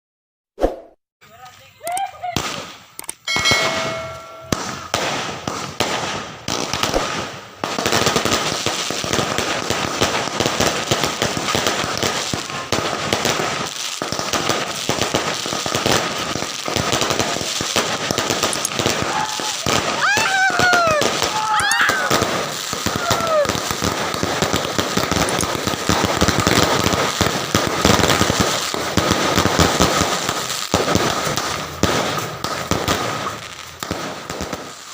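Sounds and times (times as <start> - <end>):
fireworks crackling and banging: 1.3 - 34.9.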